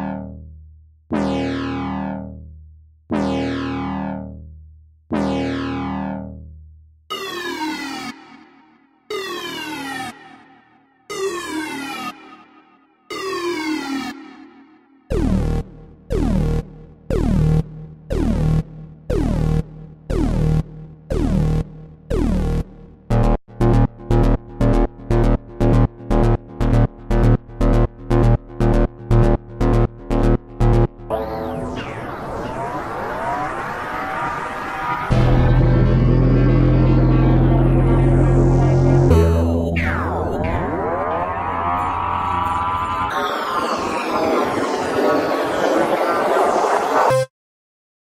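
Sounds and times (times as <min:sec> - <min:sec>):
synthesized tone with downward sweep: 0:00.0 - 0:00.4, 0:01.1 - 0:02.4, 0:03.2 - 0:04.5, 0:05.1 - 0:06.5, 0:07.1 - 0:47.3.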